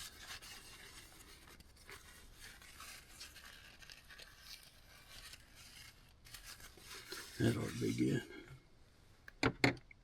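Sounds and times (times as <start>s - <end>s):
rubbing and wiping: 0.0s - 8.3s.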